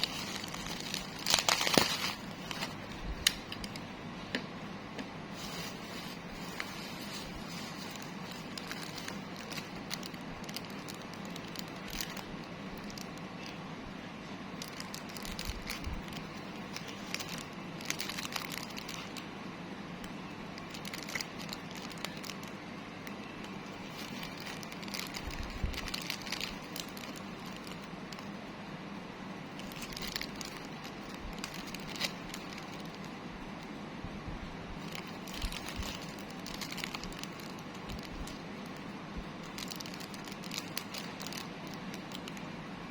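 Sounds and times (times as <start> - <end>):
plastic packaging crinkling: 0.0 - 3.9, 5.3 - 13.8, 14.5 - 19.4, 20.0 - 28.4, 29.4 - 33.8, 34.8 - 42.6
small clicks and crackles: 0.0 - 3.9, 5.4 - 13.7, 14.6 - 19.3, 20.0 - 28.5, 29.5 - 33.8, 34.8 - 42.5.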